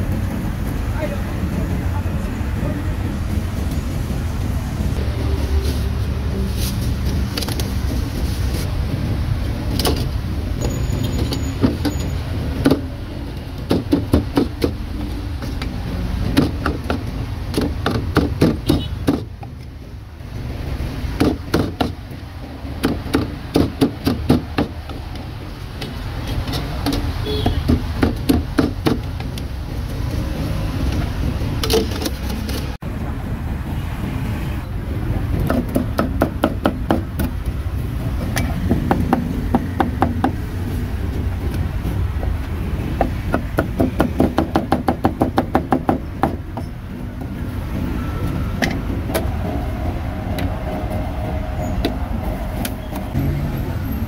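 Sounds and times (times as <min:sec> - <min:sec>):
street traffic rumble: 0:00.0 - 0:54.0.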